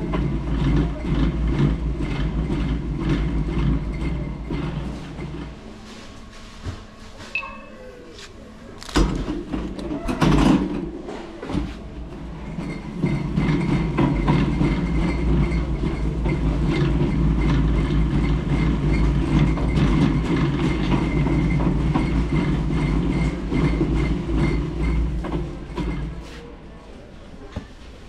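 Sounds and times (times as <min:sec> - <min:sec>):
shopping trolley castors rumbling: 0:00.0 - 0:28.0.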